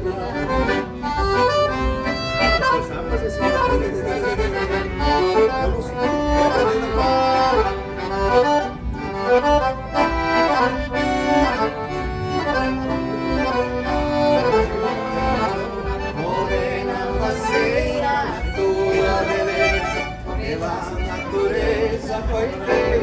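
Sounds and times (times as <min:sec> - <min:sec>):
accordion playing a waltz: 0:00.0 - 0:23.0.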